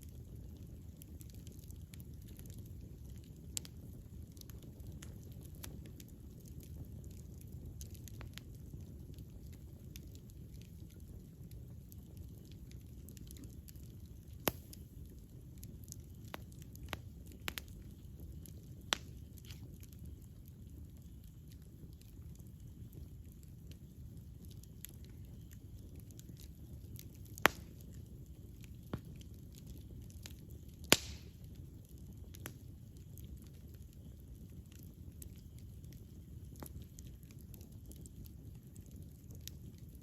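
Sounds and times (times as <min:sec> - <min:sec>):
campfire crackles and pops: 0:00.0 - 0:40.0
low rumble of flames: 0:00.0 - 0:40.0.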